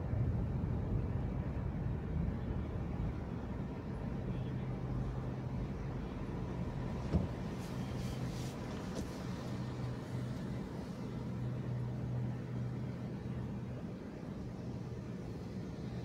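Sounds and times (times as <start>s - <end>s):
car engine and road rumble: 0.0s - 16.0s
faint hum: 0.0s - 16.0s.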